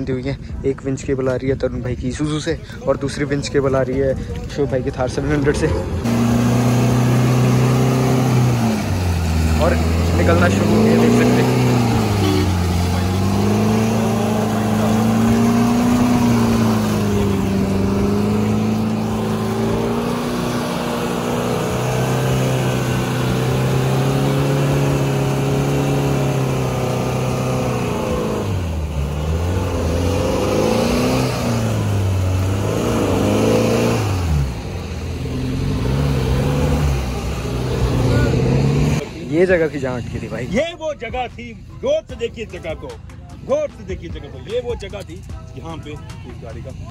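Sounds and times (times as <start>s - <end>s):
engines running under load: 0.0s - 46.9s.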